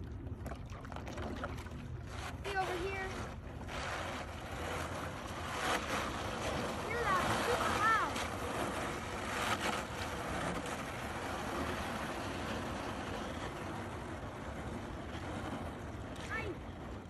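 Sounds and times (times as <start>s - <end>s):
paddle strokes splashing: 0.0s - 17.0s
water washing along kayak: 0.0s - 17.0s.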